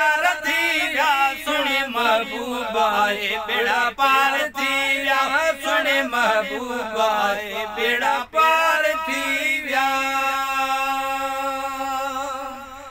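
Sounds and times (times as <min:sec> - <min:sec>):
men singing: 0:00.0 - 0:12.9.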